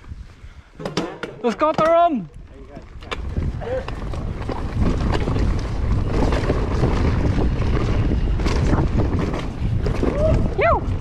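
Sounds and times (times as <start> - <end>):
bike rattles and knocks: 0.8 - 11.0
wind buffeting microphone: 2.0 - 11.0.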